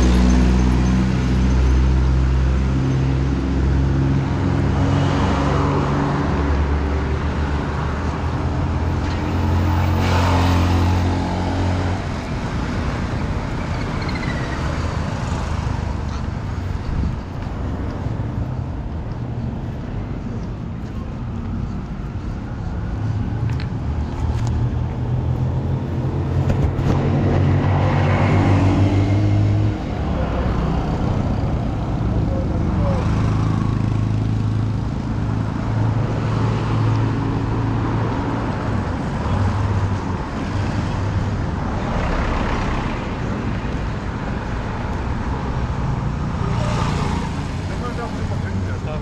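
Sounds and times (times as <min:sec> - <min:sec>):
motor vehicle engines droning: 0:00.0 - 0:49.0
vehicles passing: 0:00.0 - 0:49.0.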